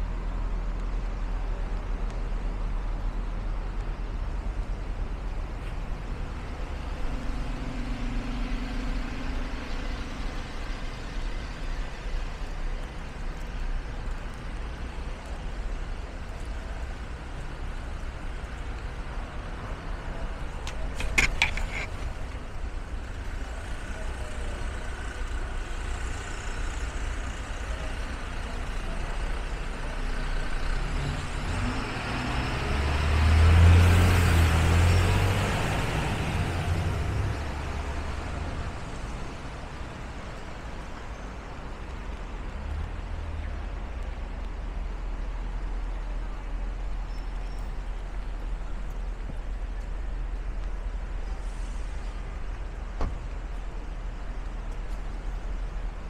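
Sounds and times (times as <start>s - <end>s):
rain hiss and wet road noise: 0.0s - 56.0s
vehicle engine rumble passing: 5.8s - 56.0s.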